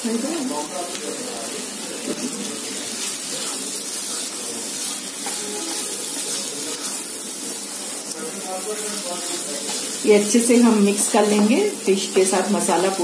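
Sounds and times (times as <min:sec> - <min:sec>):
food sizzling in a pan: 0:00.0 - 0:13.0
wooden spatula stirring in pan: 0:02.0 - 0:13.0.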